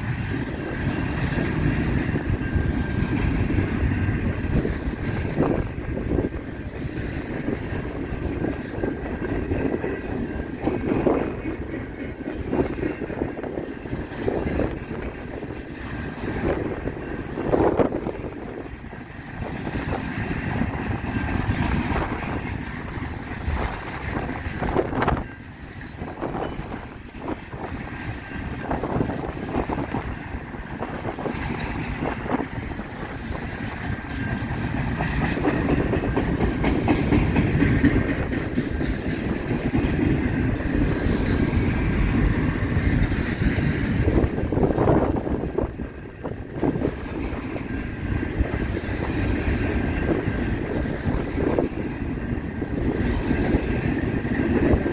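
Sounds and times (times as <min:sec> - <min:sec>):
rail cars clanking: 0:00.0 - 0:54.9
train wheels rumbling on rails: 0:00.0 - 0:54.9.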